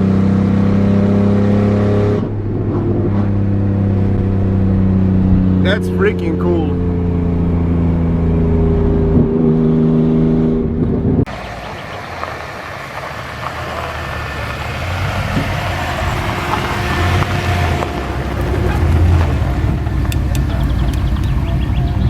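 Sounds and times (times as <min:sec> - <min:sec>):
vehicle rumble: 0:00.0 - 0:22.0
car engine running: 0:02.4 - 0:22.0.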